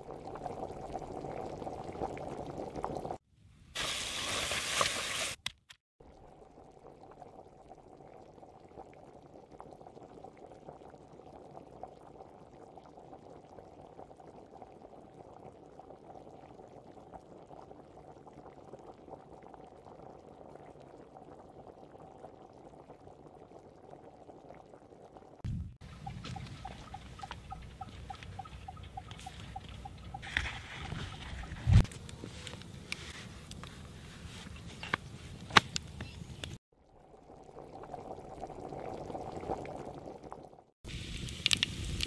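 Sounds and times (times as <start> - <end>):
stew bubbling in a pot: 0.0 - 3.2, 6.0 - 31.9, 36.7 - 42.0.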